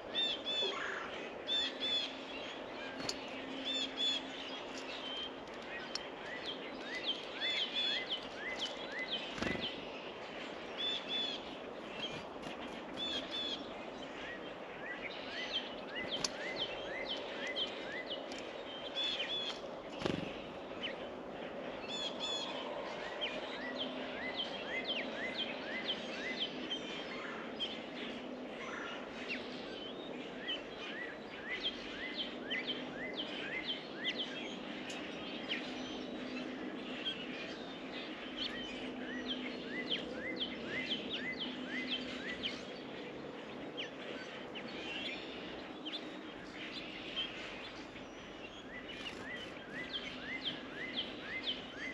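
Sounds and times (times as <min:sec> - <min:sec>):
songbirds chirping: 0:00.0 - 0:51.9.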